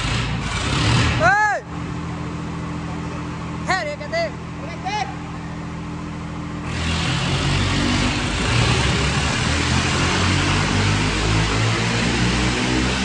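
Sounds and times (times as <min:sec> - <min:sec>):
diesel tractor engines under load: 0:00.0 - 0:13.0.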